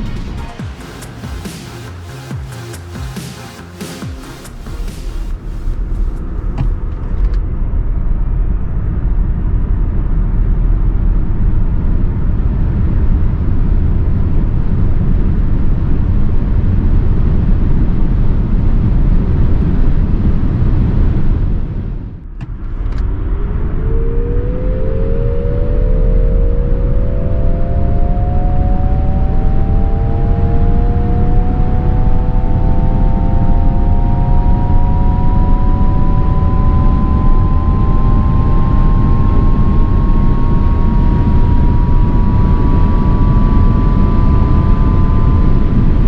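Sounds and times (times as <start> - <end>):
road and wind noise rumble: 4.1 - 46.0.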